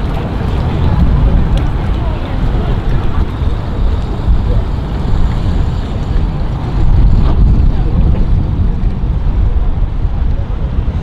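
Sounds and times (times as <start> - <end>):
boat motors running: 0.0 - 11.0
faint voices: 0.0 - 11.0
wind buffeting microphone: 0.0 - 11.0.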